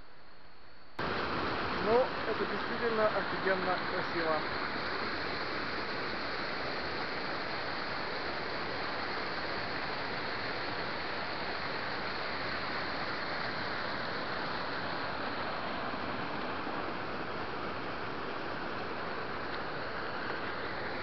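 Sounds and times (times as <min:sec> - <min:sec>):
waterfall rushing into pools: 0:01.0 - 0:21.0.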